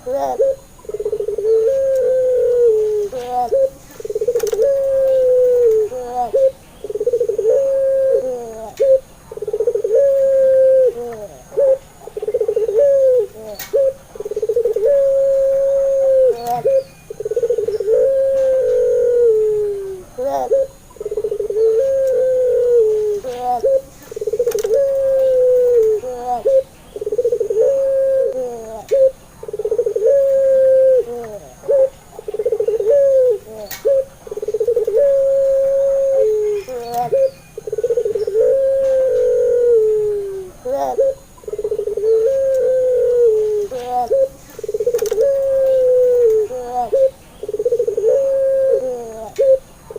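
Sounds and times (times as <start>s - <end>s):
dove cooing with rolling trill: 0.0s - 49.9s.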